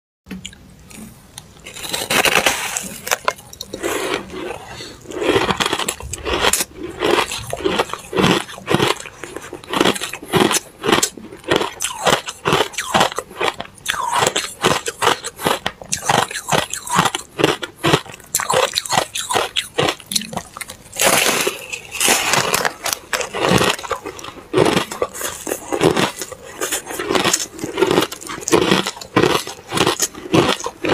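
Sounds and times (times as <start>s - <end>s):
person crunching ice: 0.9s - 30.9s.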